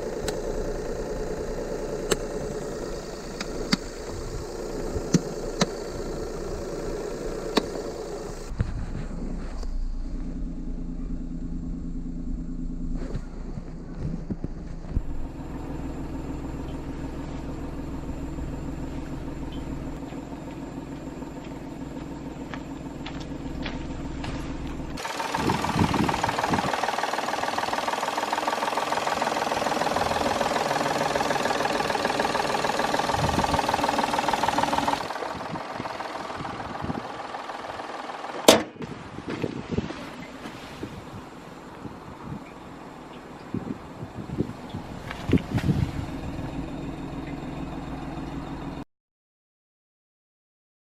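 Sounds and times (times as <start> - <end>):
car engine idling: 0.0 - 48.8.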